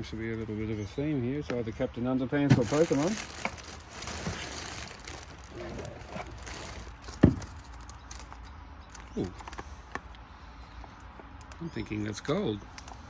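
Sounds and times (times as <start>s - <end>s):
objects handled and rustled: 2.4s - 13.0s.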